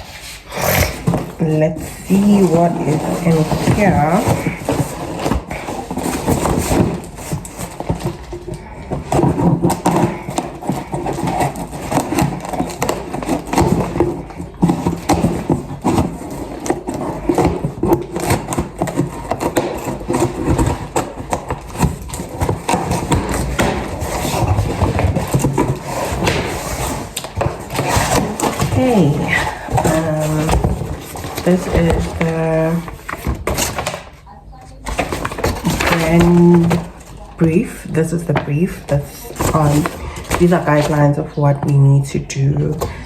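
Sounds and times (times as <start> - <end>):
packaging rustling and scraping: 0.0 - 43.0
small crackles and knocks: 1.0 - 41.8.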